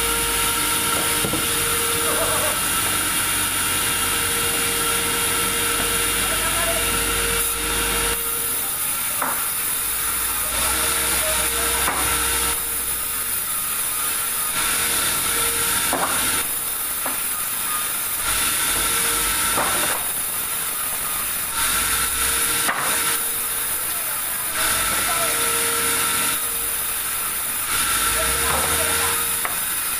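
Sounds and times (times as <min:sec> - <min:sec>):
band saw cutting log: 0:00.0 - 0:29.9.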